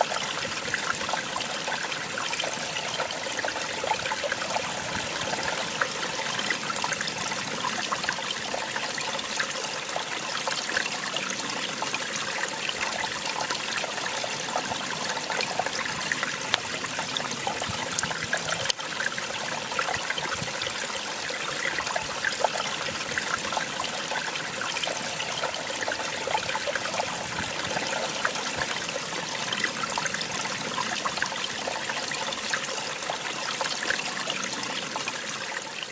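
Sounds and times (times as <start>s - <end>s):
water splashing and trickling: 0.0s - 35.9s.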